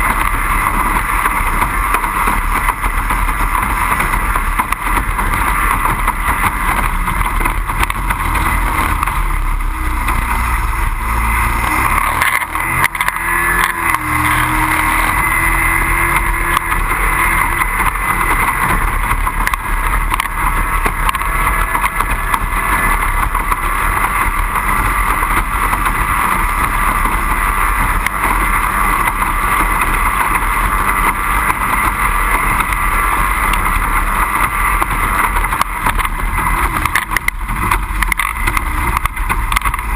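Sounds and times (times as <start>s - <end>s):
outboard engine droning: 0.0s - 39.9s.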